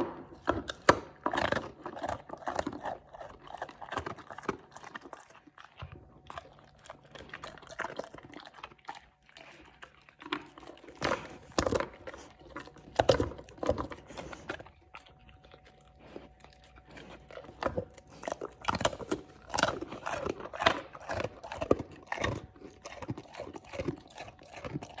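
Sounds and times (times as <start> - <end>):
dog crunching biscuits: 0.0 - 25.0.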